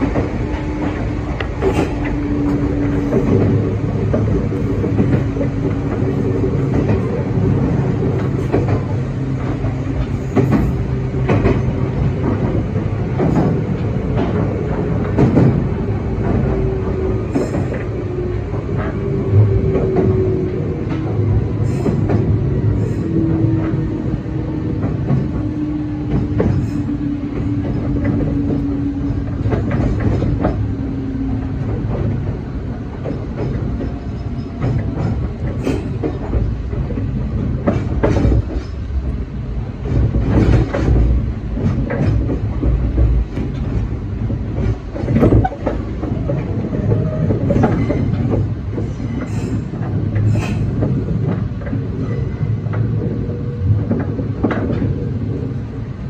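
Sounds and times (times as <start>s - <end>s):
train wheels rumbling on track: 0.0s - 56.0s
wheels clacking over rail joints: 0.0s - 56.0s.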